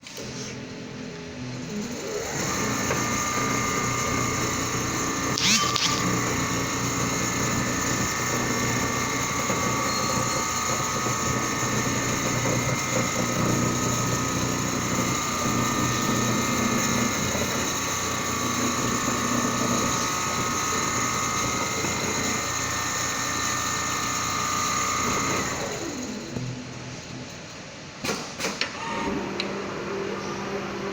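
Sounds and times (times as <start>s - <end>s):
sewing machine running: 1.6s - 27.3s.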